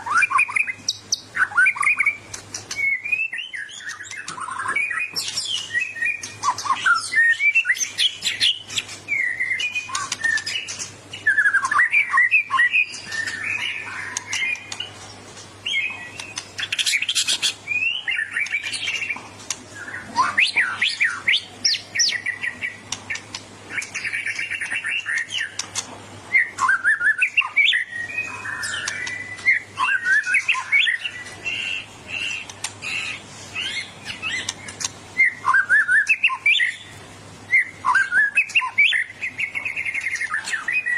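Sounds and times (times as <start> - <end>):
bird singing whistles and trills: 0.0 - 15.0, 15.6 - 25.6, 26.3 - 40.9.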